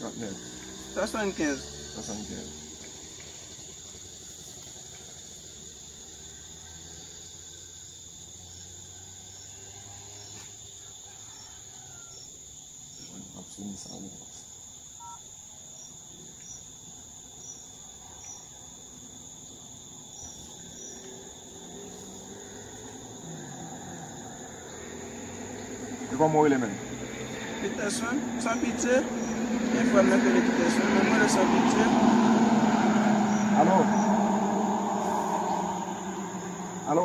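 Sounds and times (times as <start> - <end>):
insect chirps: 0.0 - 37.0
insects buzzing: 0.0 - 37.0.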